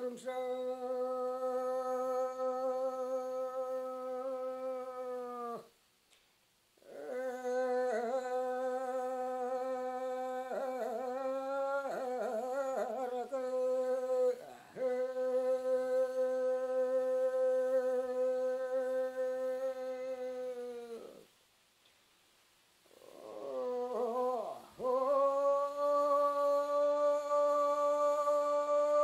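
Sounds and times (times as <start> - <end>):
person singing unaccompanied: 0.0 - 5.8, 6.8 - 21.3, 22.9 - 29.0.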